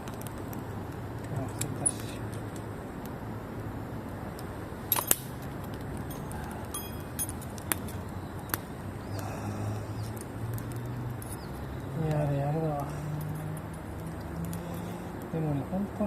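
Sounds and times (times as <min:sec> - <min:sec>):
campfire pops and crackles: 0:00.0 - 0:12.9.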